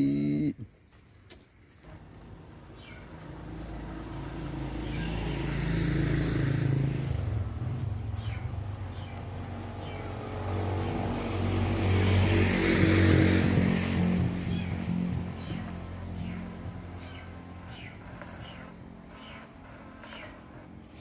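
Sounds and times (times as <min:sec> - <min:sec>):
small engine running: 0:01.9 - 0:21.0.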